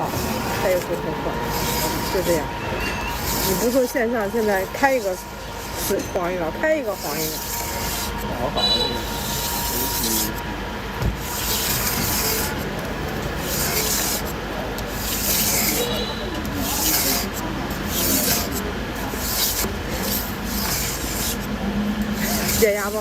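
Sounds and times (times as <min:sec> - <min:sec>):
rasping scraping strokes: 0:00.0 - 0:10.4, 0:11.2 - 0:12.7, 0:13.3 - 0:21.5, 0:22.1 - 0:23.0
steady noisy background: 0:00.0 - 0:23.0.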